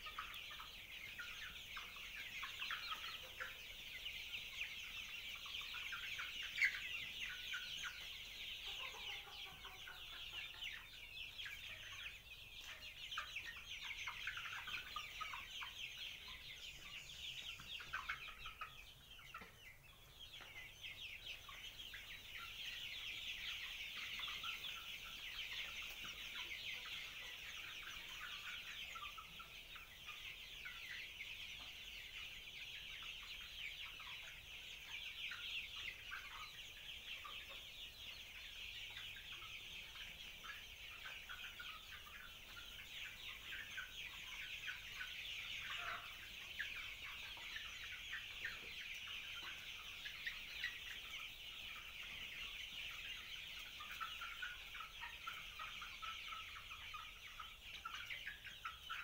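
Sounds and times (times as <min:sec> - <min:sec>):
chickens calling: 0:00.0 - 0:59.0.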